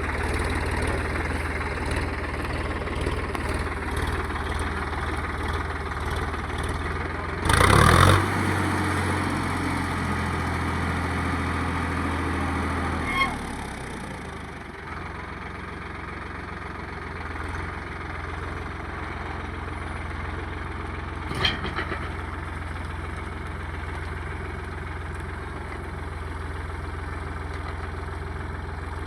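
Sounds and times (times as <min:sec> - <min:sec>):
tractor diesel engine idling: 0:00.0 - 0:29.0.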